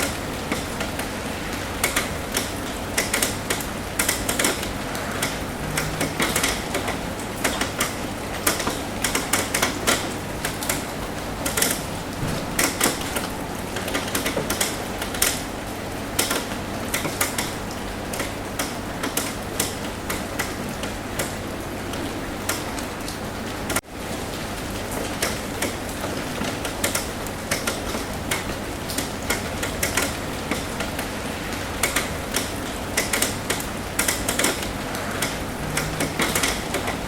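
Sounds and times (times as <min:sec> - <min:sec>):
rain hissing: 0:00.0 - 0:37.0
raindrops tapping on roof: 0:00.0 - 0:37.0.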